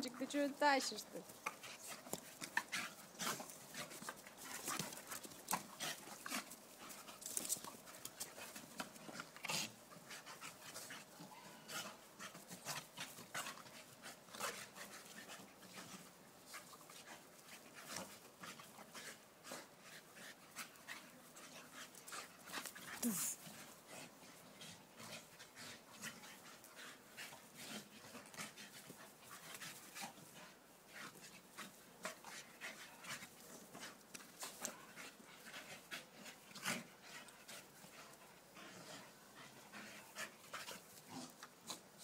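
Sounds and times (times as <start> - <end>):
dogs breathing: 0.0 - 42.0
dogs scuffling on grass: 0.0 - 42.0.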